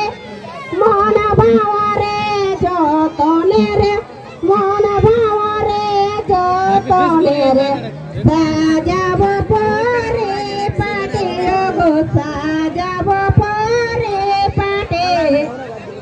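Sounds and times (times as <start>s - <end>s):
woman singing folk song: 0.7s - 15.4s.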